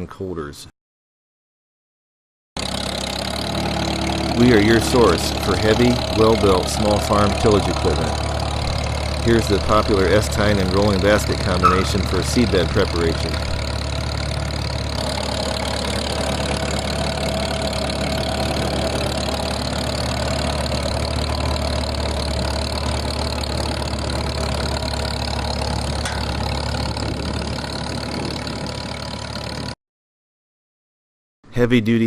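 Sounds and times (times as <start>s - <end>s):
tractor engine running: 2.6s - 29.8s.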